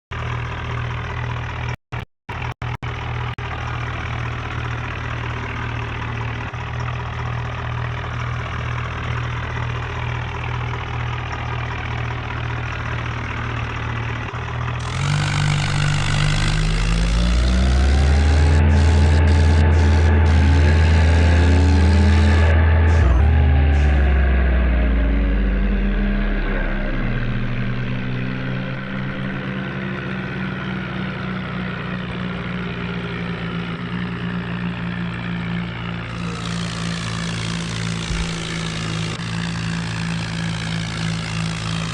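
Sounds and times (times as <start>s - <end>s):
tractor diesel engine: 0.1s - 41.9s.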